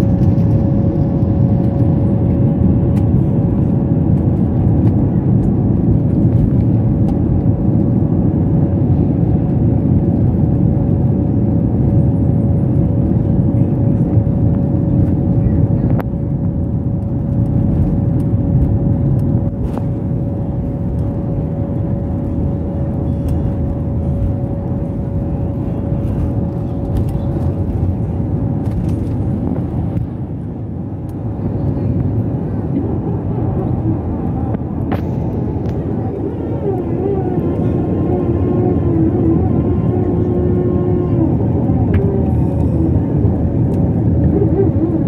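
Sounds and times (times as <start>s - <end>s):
jet engines rumbling in cabin: 0.0s - 45.0s
steady hum: 0.0s - 45.0s.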